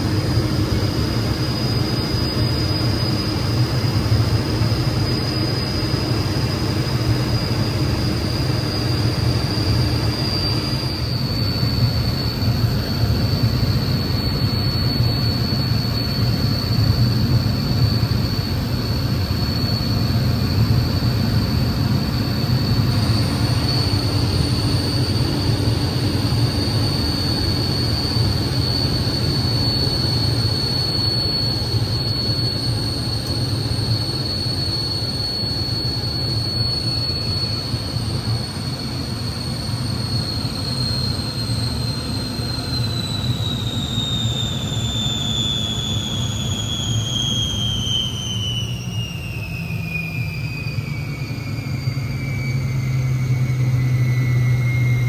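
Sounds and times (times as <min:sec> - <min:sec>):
jet engine whine: 0:00.0 - 0:55.0.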